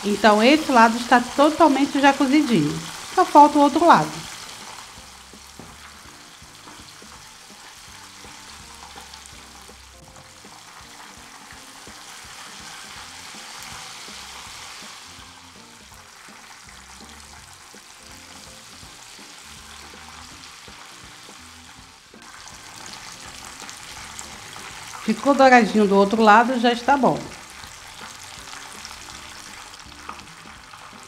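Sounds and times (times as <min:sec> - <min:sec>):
chicken frying in oil: 0:00.0 - 0:31.0
soft background music: 0:00.0 - 0:31.0.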